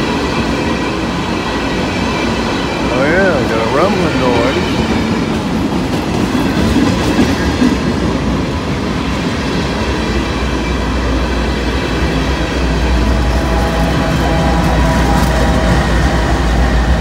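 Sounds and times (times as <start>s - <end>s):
diesel locomotive drone: 0.0s - 17.0s
train wheels clattering on rails: 0.0s - 17.0s.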